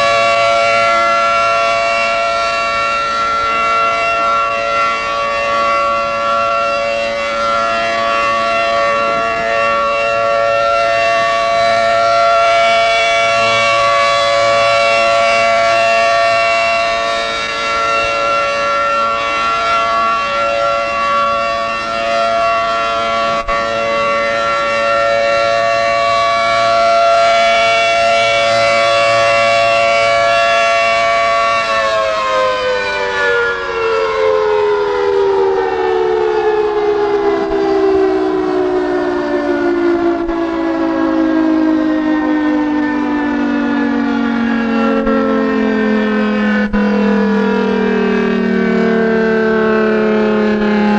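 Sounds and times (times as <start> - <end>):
two-tone warning siren: 0.0 - 50.9.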